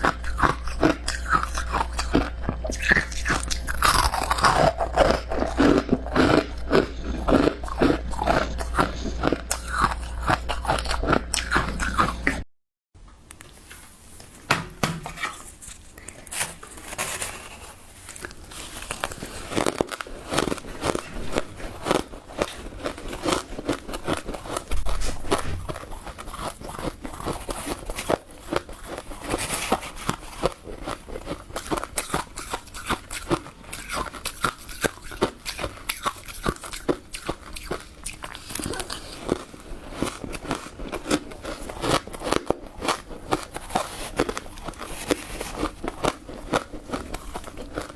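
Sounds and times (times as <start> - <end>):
crunching of frost being chewed: 0.0 - 12.4, 15.2 - 47.9.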